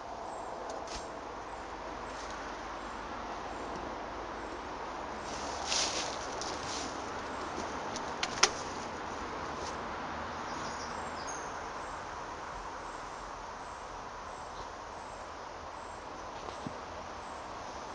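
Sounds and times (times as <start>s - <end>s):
outdoor background noise: 0.0s - 17.9s.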